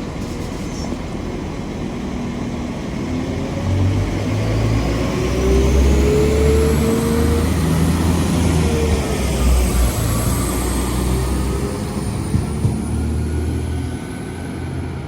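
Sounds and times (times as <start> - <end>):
diesel train engine pulling away: 0.0 - 15.0.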